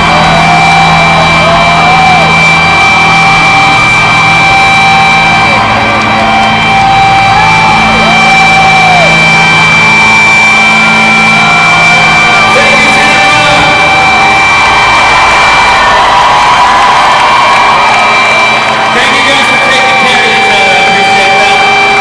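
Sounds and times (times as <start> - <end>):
guitar feedback whining: 0.0 - 22.0.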